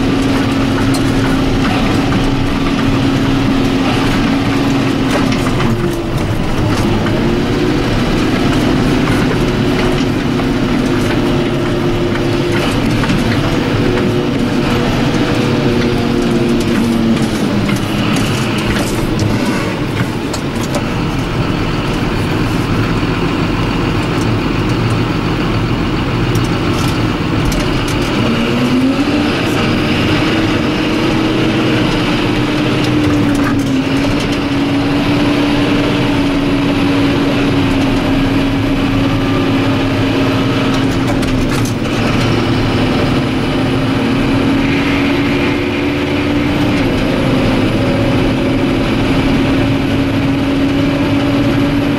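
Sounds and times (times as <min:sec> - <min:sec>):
knocks and rattles: 0:00.0 - 0:25.2, 0:26.1 - 0:36.7, 0:37.4 - 0:49.7
tractor diesel engine running: 0:00.0 - 0:51.9.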